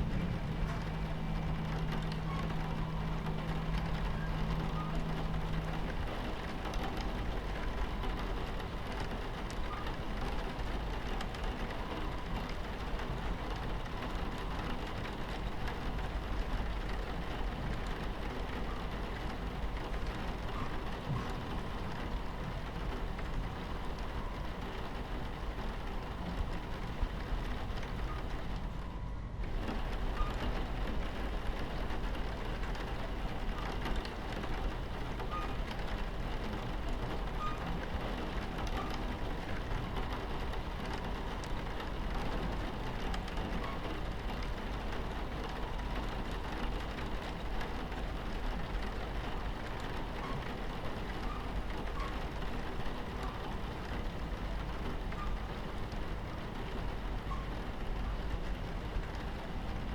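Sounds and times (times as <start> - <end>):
rain on a window: 0.0 - 59.9
train rumbling on tracks: 0.0 - 59.9.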